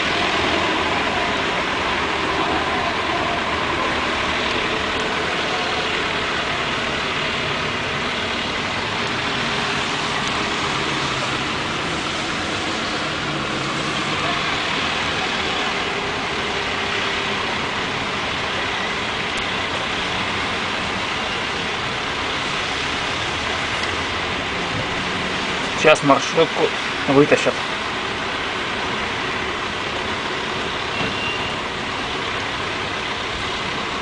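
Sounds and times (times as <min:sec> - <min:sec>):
rain hissing: 0:00.0 - 0:34.0
vehicles driving through floodwater: 0:00.0 - 0:34.0.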